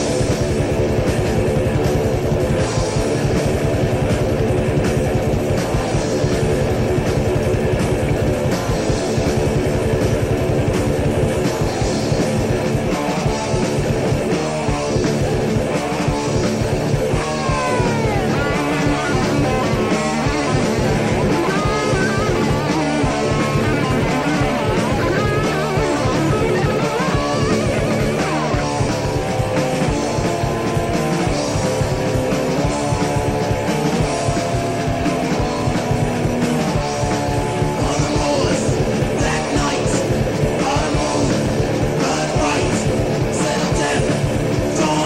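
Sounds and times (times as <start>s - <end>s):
heavy metal band playing: 0.0s - 45.0s
high guitar notes sliding down: 0.0s - 45.0s.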